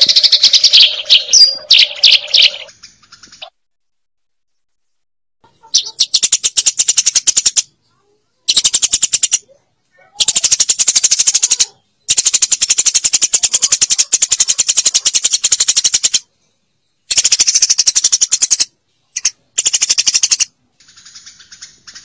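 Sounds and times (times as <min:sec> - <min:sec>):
sparrow chirping rapidly: 0:00.0 - 0:03.5, 0:05.6 - 0:22.0.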